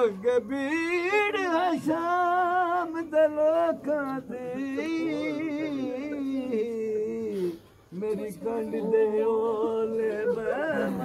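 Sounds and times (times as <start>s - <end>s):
person singing a mourning lament: 0.0s - 11.0s.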